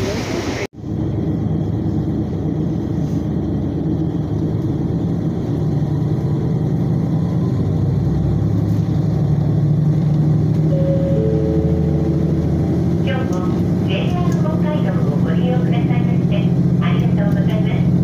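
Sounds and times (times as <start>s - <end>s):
diesel railcar engine hum: 0.0s - 18.0s.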